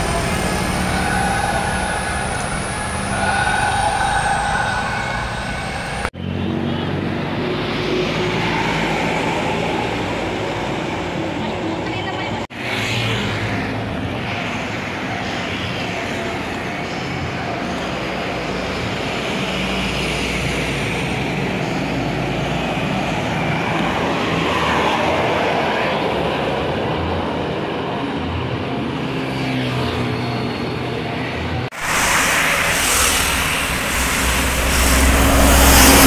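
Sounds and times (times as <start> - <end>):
bus engine rumble: 0.0 - 29.2, 31.0 - 36.0
road noise: 0.0 - 36.0.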